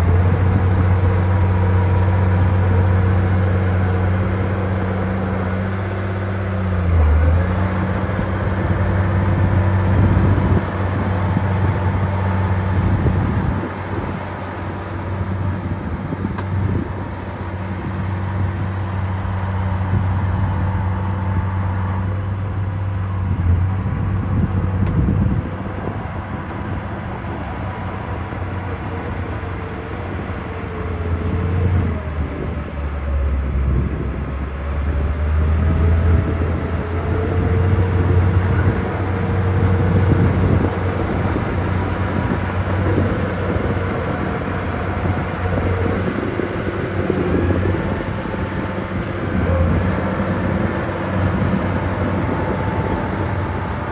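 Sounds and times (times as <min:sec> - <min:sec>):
heavy diesel engines under load: 0:00.0 - 0:53.9.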